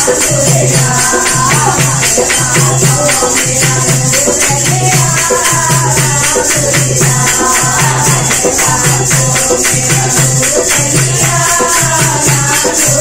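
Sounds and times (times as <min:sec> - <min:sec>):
drum beat: 0:00.0 - 0:13.0
hand clapping: 0:00.0 - 0:13.0
jingling hand percussion: 0:00.0 - 0:13.0
women singing folk song: 0:00.0 - 0:13.0.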